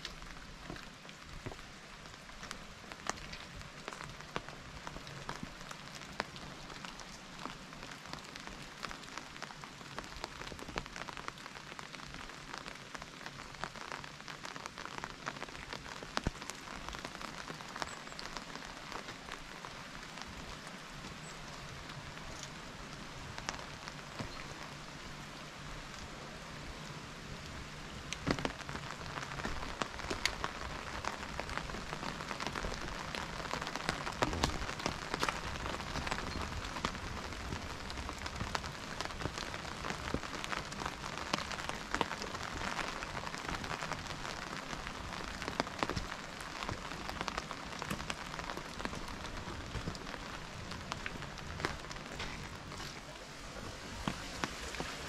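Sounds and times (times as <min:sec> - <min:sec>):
rain falling: 0:00.0 - 0:55.0
raindrops ticking close by: 0:00.0 - 0:55.0.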